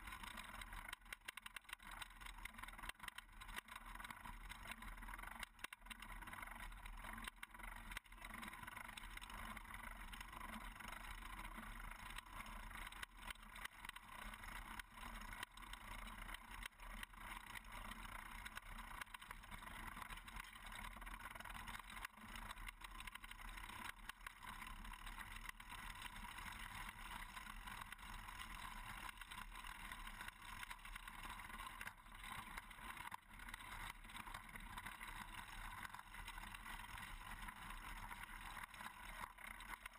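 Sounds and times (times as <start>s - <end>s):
small crackles: 0.0s - 39.9s.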